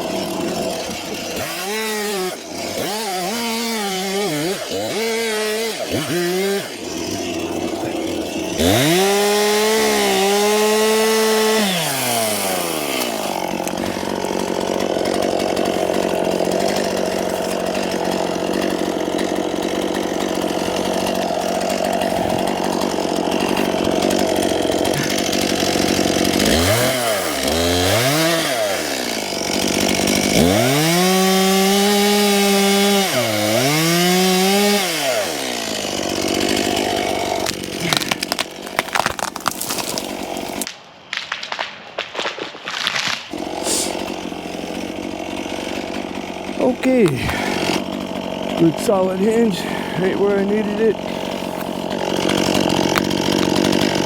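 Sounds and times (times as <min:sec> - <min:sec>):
chainsaw revving and cutting: 0:00.0 - 0:40.7, 0:42.6 - 0:54.0.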